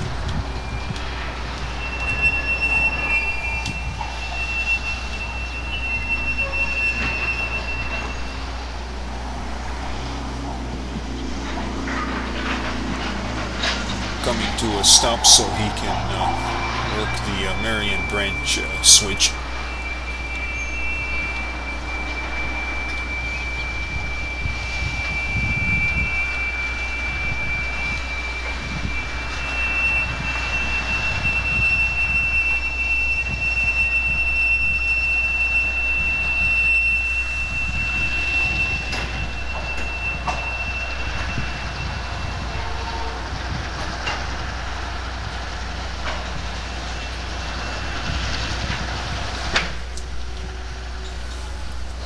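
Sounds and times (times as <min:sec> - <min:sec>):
freight train rolling: 0:00.0 - 0:52.0
train wheel flanges squealing: 0:00.0 - 0:52.0.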